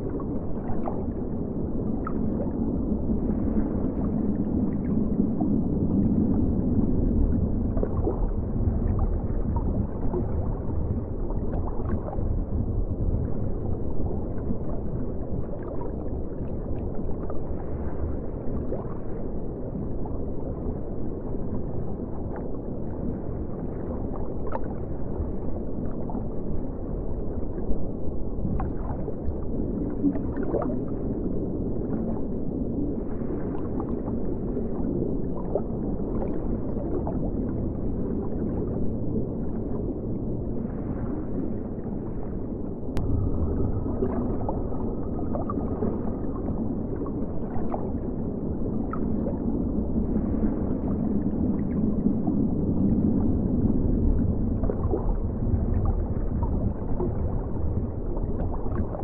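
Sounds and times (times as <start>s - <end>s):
water rumbling in aquarium tank: 0.0s - 59.0s.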